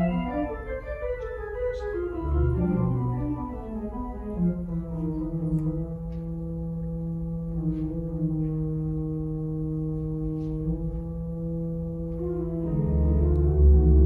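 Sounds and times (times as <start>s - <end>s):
deep organ pedal bass: 0.0s - 14.0s
pipe organ chords: 0.0s - 14.0s.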